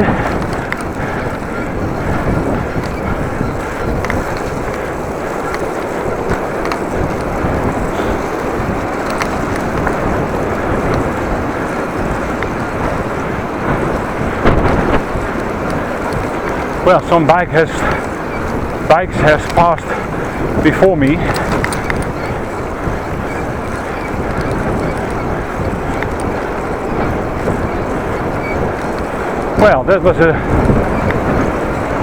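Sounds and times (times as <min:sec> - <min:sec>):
faint clicks: 0:00.0 - 0:29.6, 0:30.5 - 0:31.6
bicycle rolling on rough ground: 0:00.0 - 0:32.0
wind buffeting microphone: 0:00.0 - 0:32.0.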